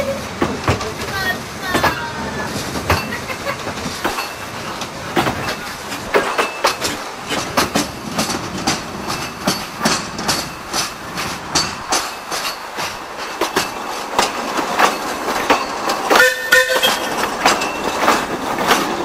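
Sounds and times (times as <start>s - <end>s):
train rumble: 0.0s - 19.0s
train wheels knocking on rail joints: 0.0s - 19.0s.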